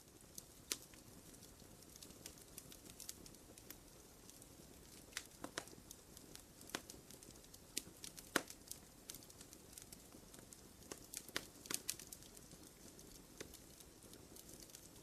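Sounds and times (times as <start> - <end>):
campfire crackling: 0.0 - 15.0
low steady hiss: 0.0 - 15.0
sharp fire snaps: 0.0 - 15.0.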